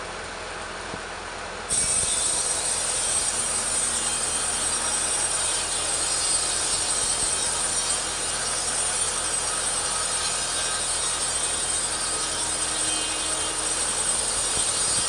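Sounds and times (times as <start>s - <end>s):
chainsaw cutting wood: 1.7s - 15.0s.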